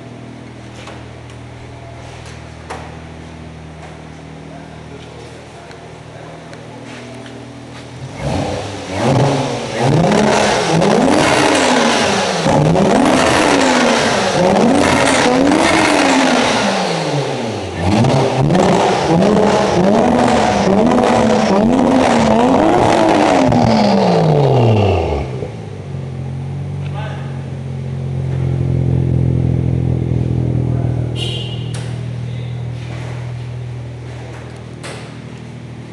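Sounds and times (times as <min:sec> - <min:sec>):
car engine idling: 0:00.0 - 0:35.9
car engine revving: 0:00.0 - 0:35.9.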